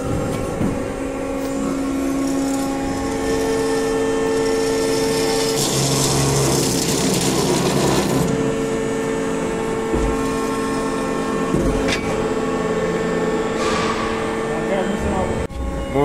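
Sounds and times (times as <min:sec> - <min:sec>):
band saw hum: 0:00.0 - 0:16.0.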